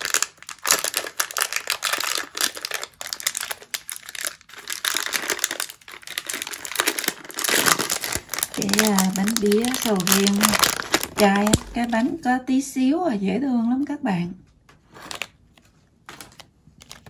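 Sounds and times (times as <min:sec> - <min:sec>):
plastic wrappers crinkling: 0:00.0 - 0:12.3, 0:14.7 - 0:17.0.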